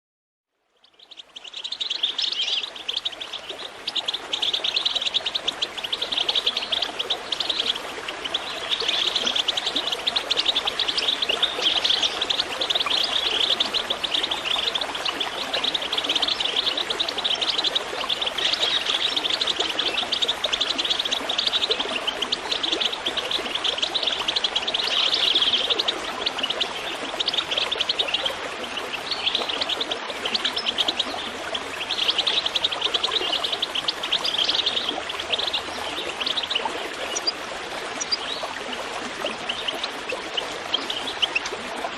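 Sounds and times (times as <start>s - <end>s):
birds chirping: 0.8s - 41.7s.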